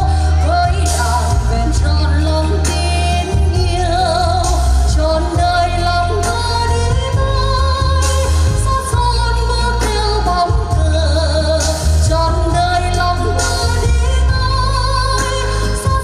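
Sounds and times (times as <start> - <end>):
band with heavy bass: 0.0 - 16.0.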